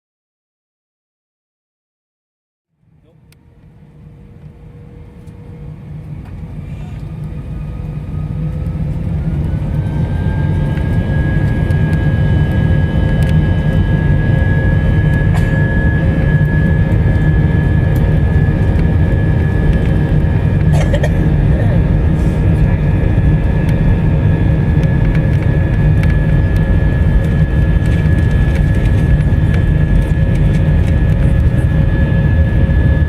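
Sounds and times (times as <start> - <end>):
jet engines spooling up: 3.4 - 33.0.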